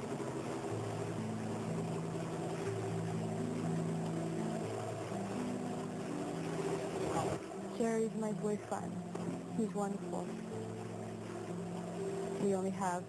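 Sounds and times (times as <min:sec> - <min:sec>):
motorboat engine running: 0:00.0 - 0:13.0
slow held low notes: 0:00.0 - 0:13.0.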